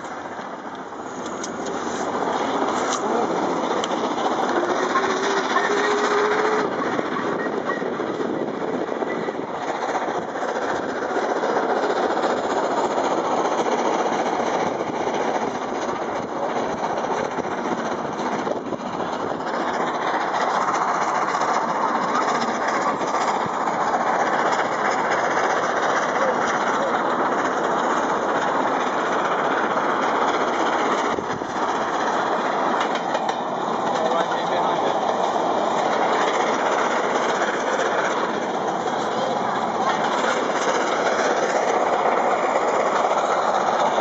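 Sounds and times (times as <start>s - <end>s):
steam locomotive running: 0.0s - 44.0s.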